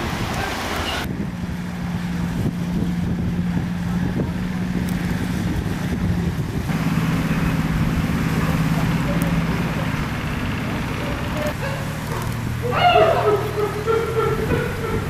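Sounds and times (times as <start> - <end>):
wind noise: 0.0 - 9.0, 11.5 - 15.0
low motor hum: 0.0 - 15.0.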